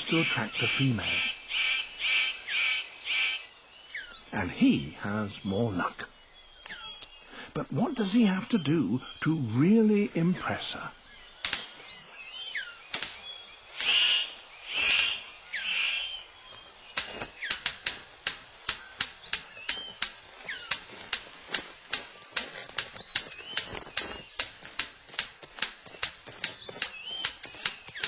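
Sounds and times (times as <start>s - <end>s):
bird harsh rasping bursts: 0.0s - 7.6s, 8.2s - 28.0s
sharp regular bird clicks: 0.0s - 7.6s, 8.2s - 28.0s
thin whistled bird calls: 0.0s - 24.9s, 26.3s - 28.0s.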